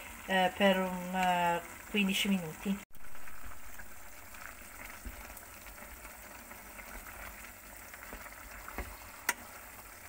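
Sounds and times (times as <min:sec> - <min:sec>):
sauce bubbling in a frying pan: 0:00.0 - 0:10.0.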